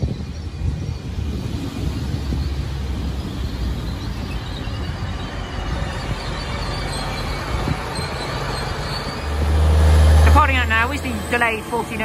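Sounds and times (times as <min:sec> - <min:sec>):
faint high squeal: 0:00.0 - 0:12.0
train wheels rumbling: 0:00.0 - 0:12.0.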